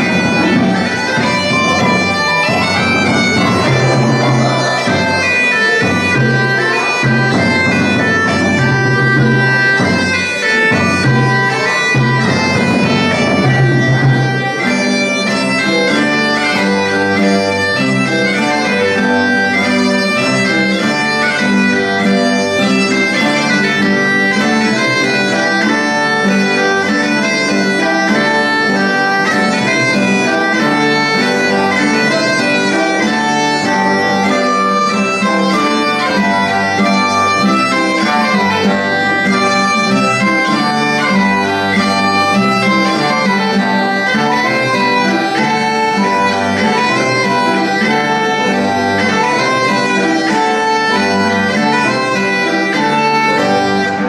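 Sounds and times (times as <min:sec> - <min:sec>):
bagpipe drone: 0:00.0 - 0:54.0
recorders playing lively melody: 0:00.0 - 0:54.0.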